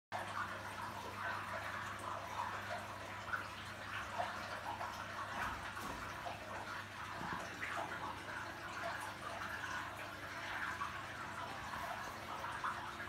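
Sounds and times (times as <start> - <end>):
aquarium water trickling and bubbling: 0.1 - 13.0.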